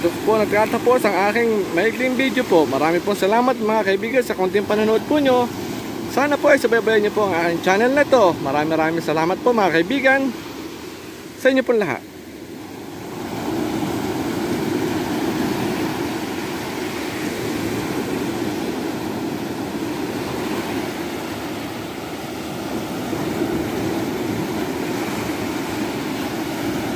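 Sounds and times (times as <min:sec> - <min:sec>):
small waves breaking on sand: 0:00.0 - 0:26.9.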